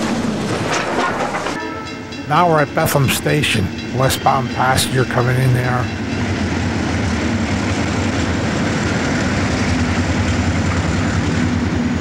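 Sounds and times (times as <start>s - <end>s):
diesel locomotive engine humming: 0.0s - 12.0s.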